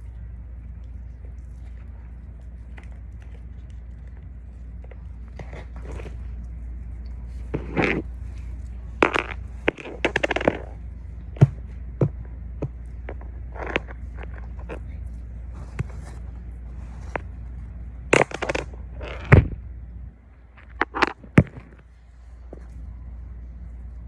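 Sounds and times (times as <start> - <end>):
toys crinkling and crackling: 0.0 - 19.7, 20.3 - 23.2
steady low hum: 0.0 - 24.0.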